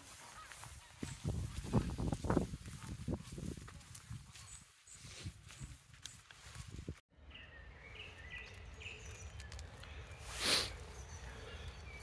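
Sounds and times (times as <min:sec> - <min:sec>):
songbird chirping: 0:00.0 - 0:12.0
woodland ambience: 0:00.0 - 0:12.0.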